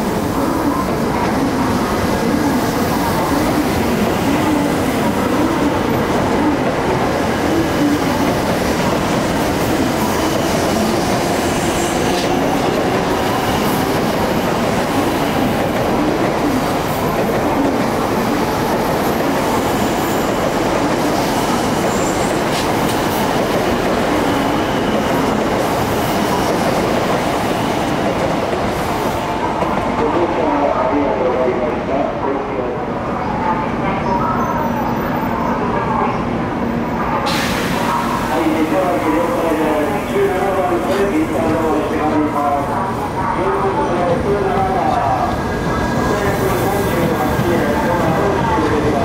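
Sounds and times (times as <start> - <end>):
train wheels rumbling on rail: 0.0 - 31.2, 36.2 - 49.0.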